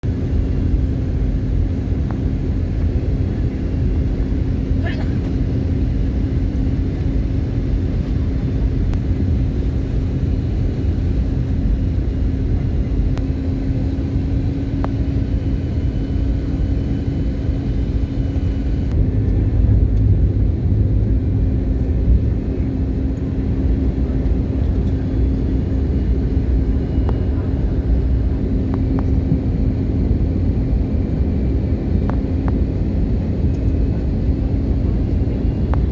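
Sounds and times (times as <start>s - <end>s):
aircraft engines rumbling: 0.0s - 35.9s.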